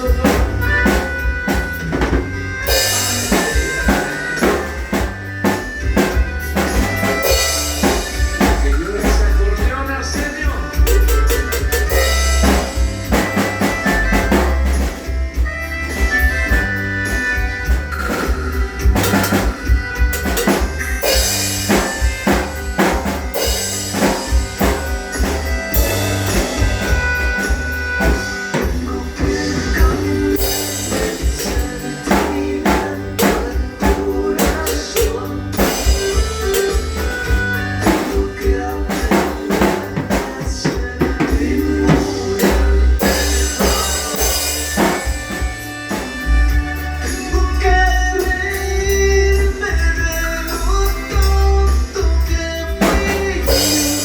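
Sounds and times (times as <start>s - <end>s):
drum kit playing: 0.0s - 54.0s
instrumental backing track: 0.0s - 54.0s.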